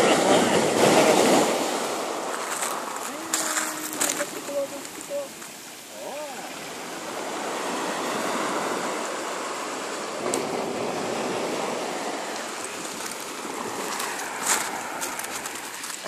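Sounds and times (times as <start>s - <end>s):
small waves breaking on a beach: 0.0s - 16.0s.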